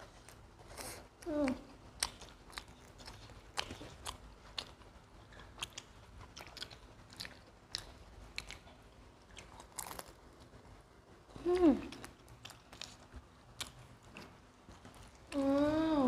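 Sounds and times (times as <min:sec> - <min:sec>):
people chewing pizza: 0:00.0 - 0:16.0.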